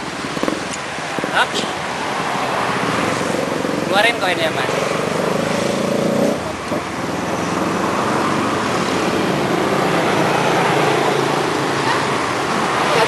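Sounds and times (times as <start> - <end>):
steady road noise: 0.0 - 13.0
vehicle engine passing: 1.3 - 13.0.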